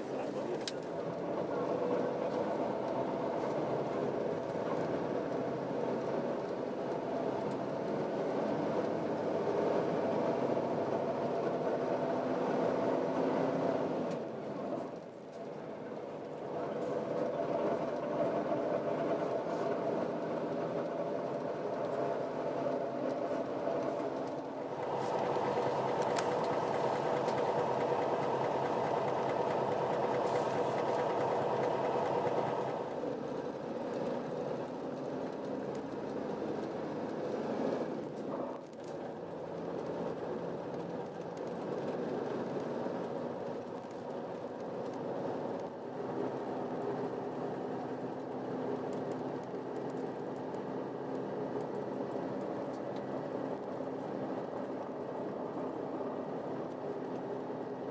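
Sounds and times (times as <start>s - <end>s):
bus engine running: 0.0s - 57.9s
road noise: 0.0s - 57.9s.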